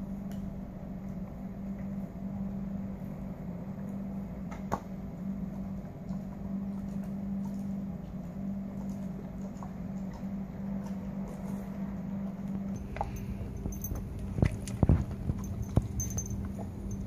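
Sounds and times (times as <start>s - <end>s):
low mechanical hum: 0.0s - 17.0s
dog gnawing a chew treat: 0.1s - 17.0s.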